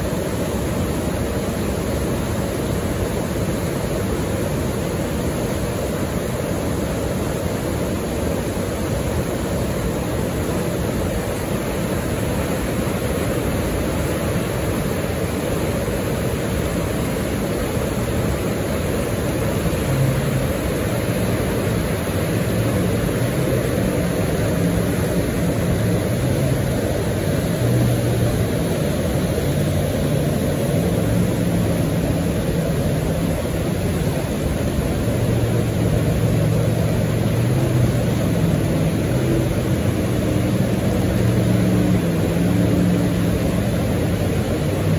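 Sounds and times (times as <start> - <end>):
jet boat engine drone: 0.0 - 44.9
whitewater rapids roaring: 0.0 - 44.9.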